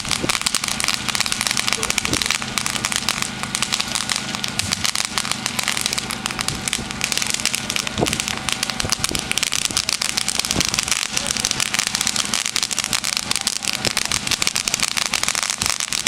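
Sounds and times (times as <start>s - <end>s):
firework fountain crackling: 0.0s - 16.0s
firework pops: 0.0s - 16.0s.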